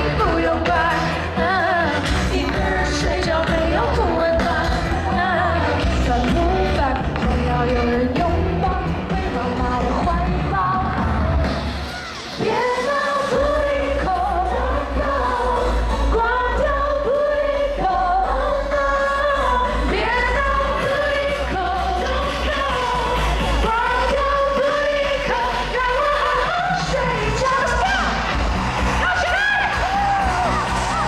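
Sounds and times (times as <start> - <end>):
heavy bass: 0.0 - 11.9, 13.3 - 31.0
person singing: 0.0 - 28.3
live pop music: 0.0 - 31.0.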